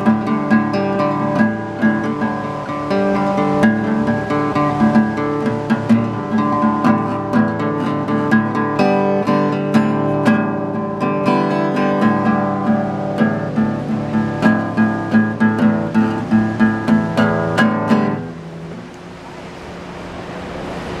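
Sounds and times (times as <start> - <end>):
acoustic guitar strumming: 0.0 - 20.6.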